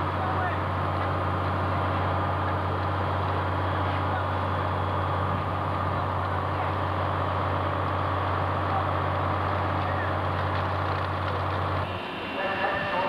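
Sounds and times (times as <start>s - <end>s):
fire engine running: 0.0s - 13.0s.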